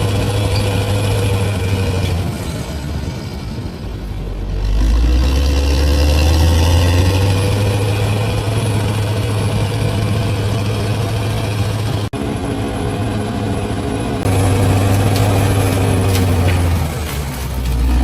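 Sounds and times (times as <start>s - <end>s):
bulldozer diesel engine working: 0.0s - 18.0s.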